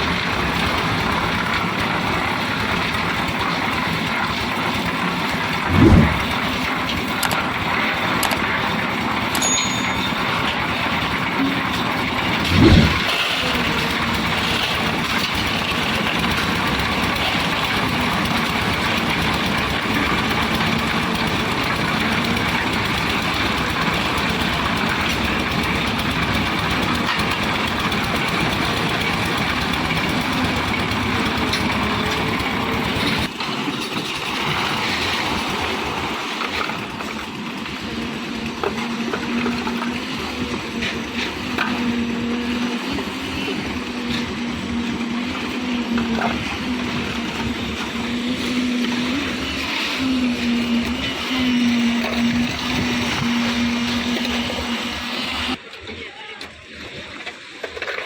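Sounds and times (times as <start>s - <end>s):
concrete mixer engine running: 0.0s - 56.0s.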